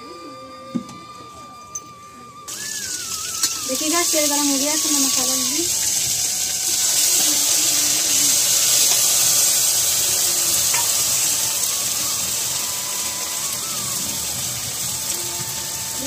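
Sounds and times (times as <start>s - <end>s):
paste sizzling in hot oil: 2.5s - 16.0s.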